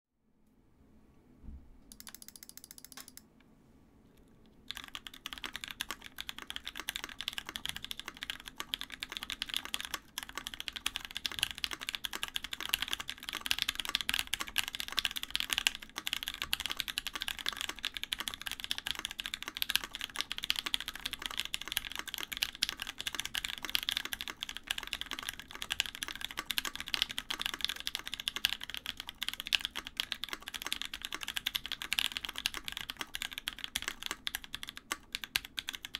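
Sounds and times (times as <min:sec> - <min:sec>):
mechanical keyboard typing: 0:01.9 - 0:03.2, 0:04.7 - 0:35.9.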